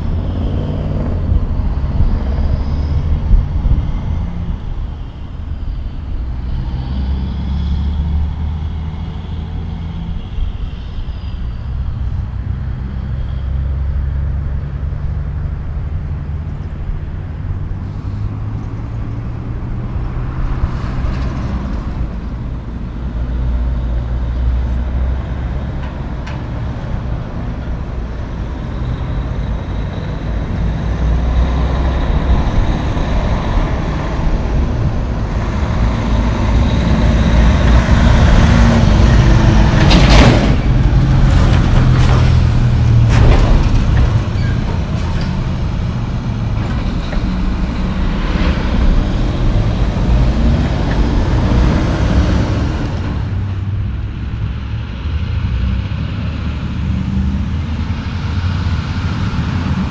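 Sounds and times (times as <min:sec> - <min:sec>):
diesel trucks driving past: 0:00.0 - 0:59.9.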